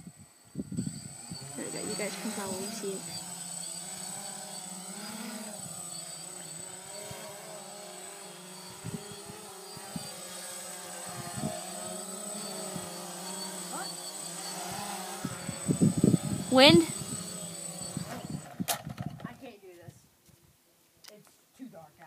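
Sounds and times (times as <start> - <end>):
drone propellers buzzing: 0.0 - 19.2.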